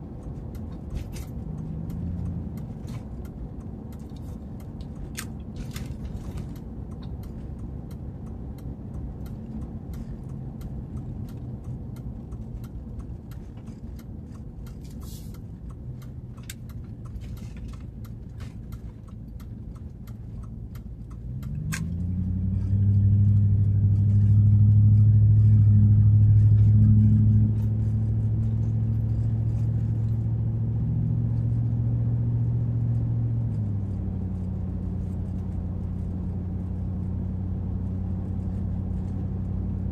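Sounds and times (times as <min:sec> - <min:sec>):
light ticks and rattles: 0:00.0 - 0:39.9
truck engine rumbling: 0:00.0 - 0:39.9.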